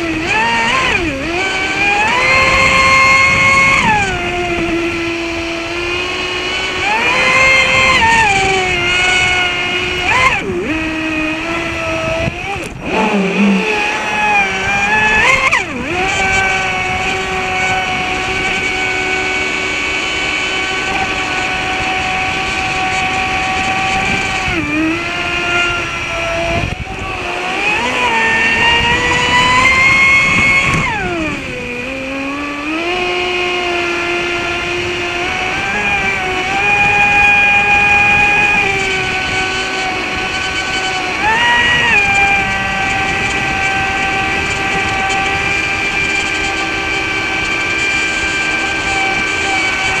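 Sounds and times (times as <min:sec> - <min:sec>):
electric motor whining: 0:00.0 - 0:50.0.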